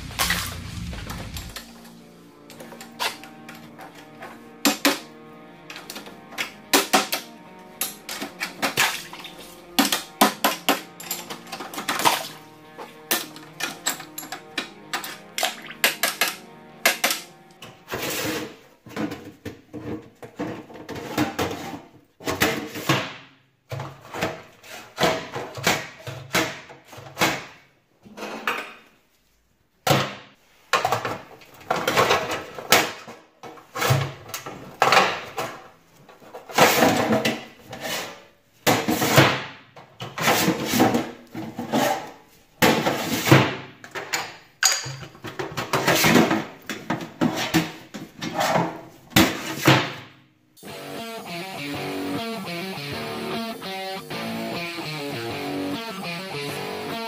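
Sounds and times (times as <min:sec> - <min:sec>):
metal boxes scraping and clattering: 0:00.0 - 0:23.0, 0:23.7 - 0:27.2, 0:30.6 - 0:50.0.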